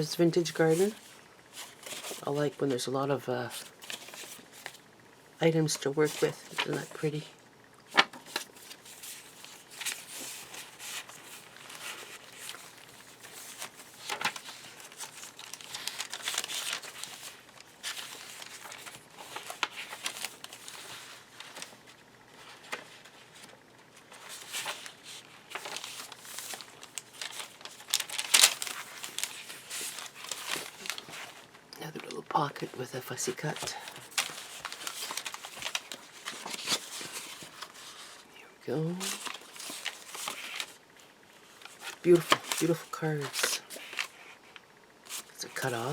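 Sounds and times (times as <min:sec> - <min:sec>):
paper rustling and crinkling: 0:00.0 - 0:04.8, 0:05.6 - 0:07.3, 0:07.9 - 0:38.3, 0:38.9 - 0:40.8, 0:41.4 - 0:45.9.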